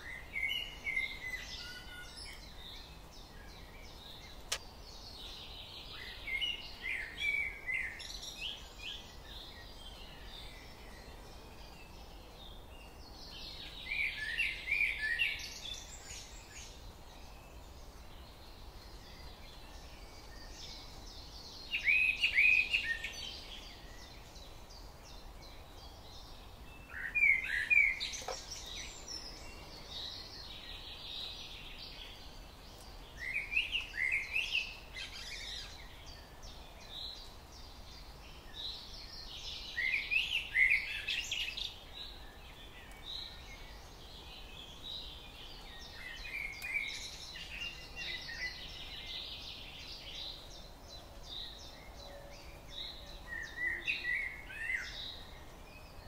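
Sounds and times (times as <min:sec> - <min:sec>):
faint twitter of birds: 0:00.0 - 0:56.0.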